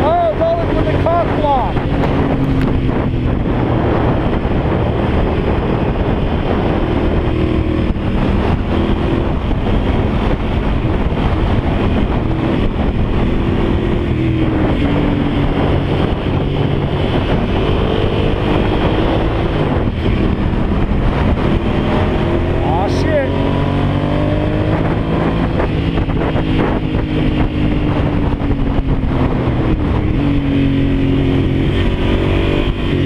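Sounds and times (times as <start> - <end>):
motorcycle engine revving: 0.0 - 33.0
wind noise on microphone: 0.0 - 33.0.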